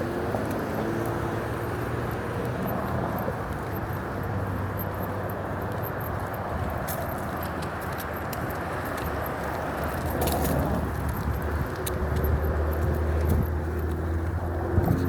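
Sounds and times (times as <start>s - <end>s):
road vehicle rumble and hiss: 0.0s - 15.0s.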